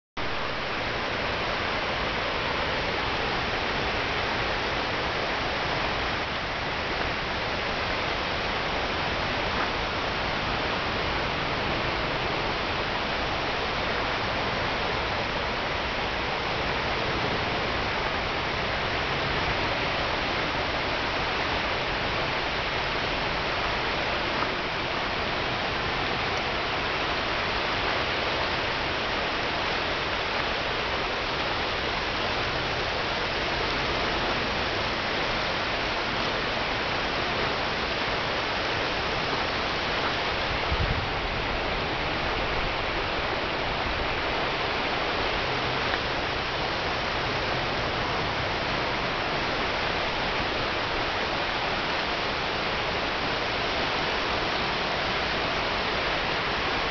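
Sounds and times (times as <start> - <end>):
water rushing over rocks: 0.2 - 56.9.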